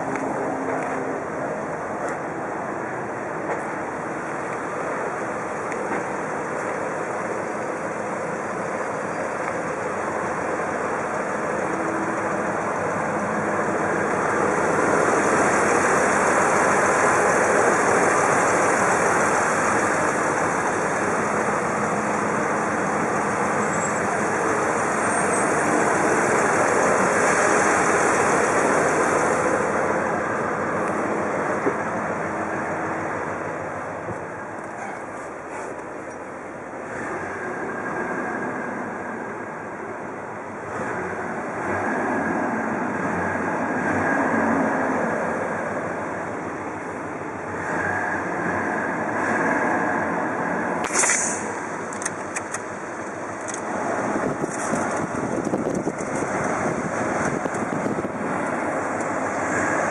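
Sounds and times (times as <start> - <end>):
pickup truck engine and road hum: 0.0 - 59.9.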